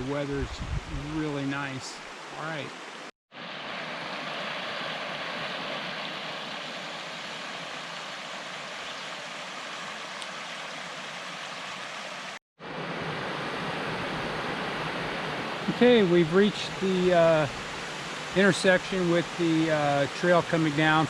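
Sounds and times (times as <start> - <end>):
creek water flowing: 1.0 - 21.0.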